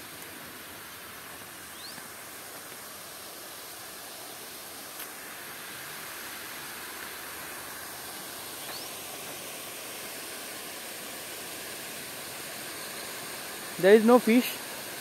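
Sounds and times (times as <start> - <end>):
water spilling over a dam: 0.0 - 15.0.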